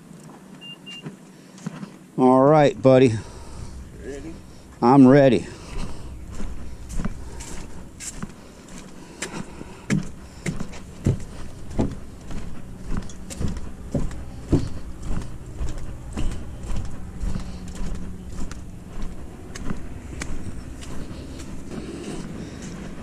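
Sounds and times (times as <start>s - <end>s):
footsteps on wooden boards: 0.3s - 2.0s, 3.2s - 23.0s.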